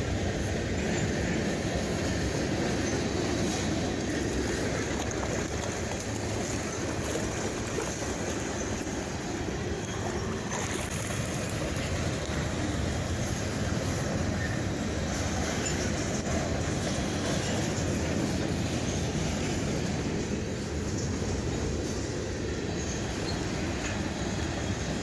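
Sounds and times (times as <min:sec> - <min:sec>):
freight train rolling over bridge: 0:00.0 - 0:25.0.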